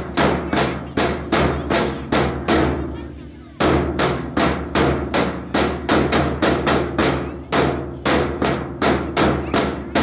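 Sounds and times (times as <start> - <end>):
rhythmic sharp ringing knocks: 0.0 - 10.0.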